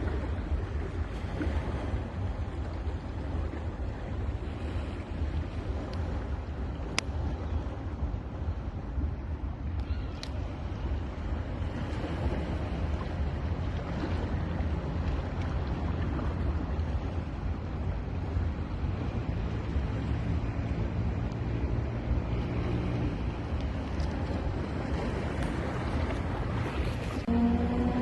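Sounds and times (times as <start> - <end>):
waves washing onto beach: 0.0 - 28.0
wind rumble on microphone: 0.0 - 28.0.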